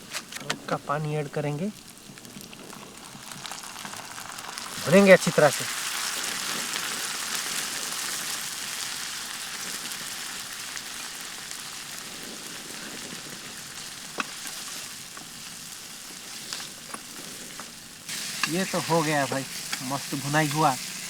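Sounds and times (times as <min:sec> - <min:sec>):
masala sizzling in a pan: 0:00.0 - 0:21.0.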